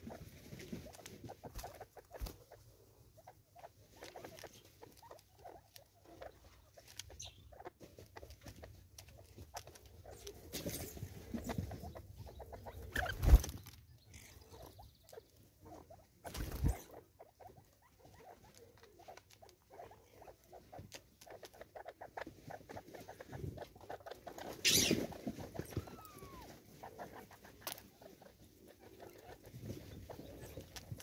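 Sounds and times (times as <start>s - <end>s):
birds pecking seed: 0.0s - 31.0s.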